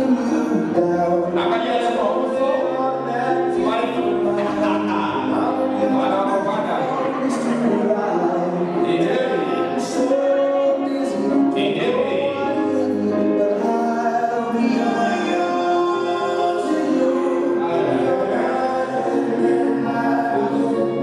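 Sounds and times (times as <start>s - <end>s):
song with sung melody: 0.0s - 21.0s.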